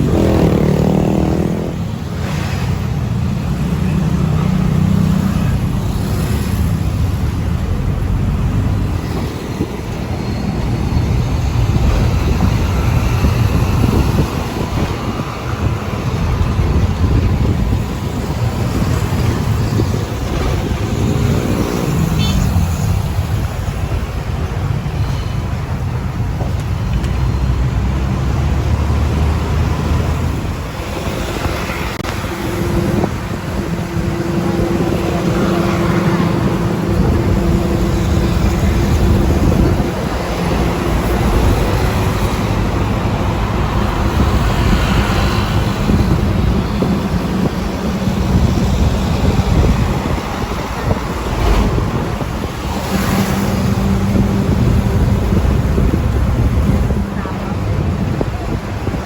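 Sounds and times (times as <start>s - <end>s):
vehicle engine rumble: 0.0s - 59.0s
wind noise: 0.0s - 59.0s.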